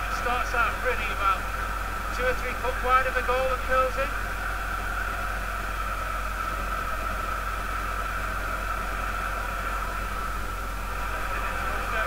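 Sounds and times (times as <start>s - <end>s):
stadium crowd din: 0.0s - 12.0s.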